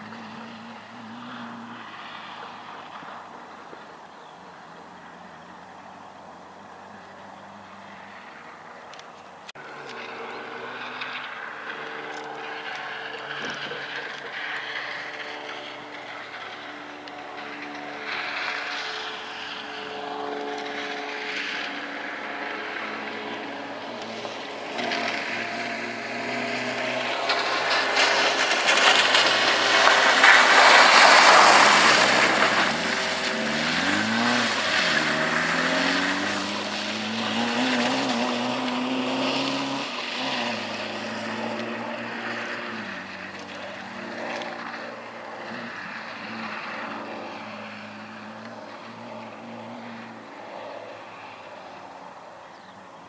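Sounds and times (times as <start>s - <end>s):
rally car engine revving: 0.0s - 52.8s
tyres hissing through gravel and water: 0.0s - 53.0s.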